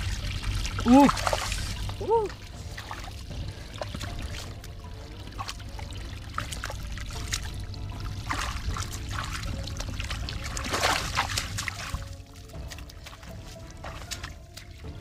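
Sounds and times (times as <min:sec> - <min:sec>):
muddy water sloshing: 0:00.0 - 0:15.0
water splashing: 0:00.0 - 0:15.0.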